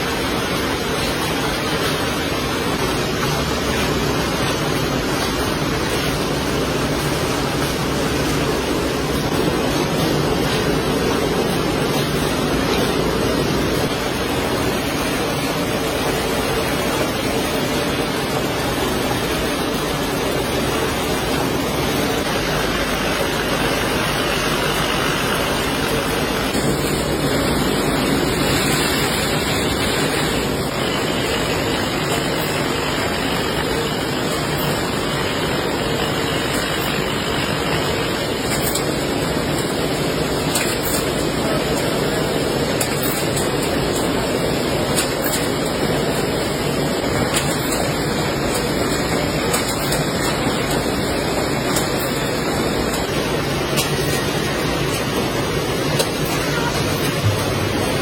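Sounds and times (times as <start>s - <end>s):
factory machinery running: 0.0s - 58.0s.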